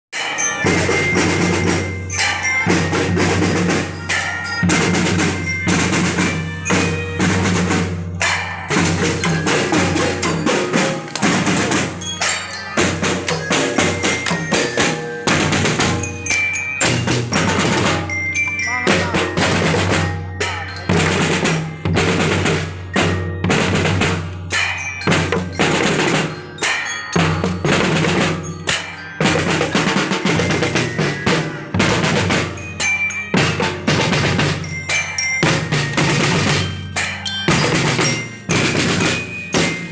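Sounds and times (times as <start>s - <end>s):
glockenspiel notes: 0.1s - 39.9s
snare and bass drums marching: 0.3s - 39.9s.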